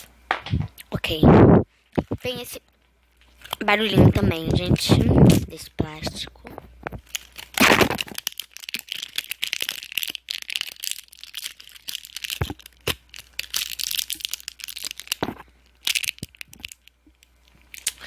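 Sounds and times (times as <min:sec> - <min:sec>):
plastic packaging crinkling: 0:01.9 - 0:18.0.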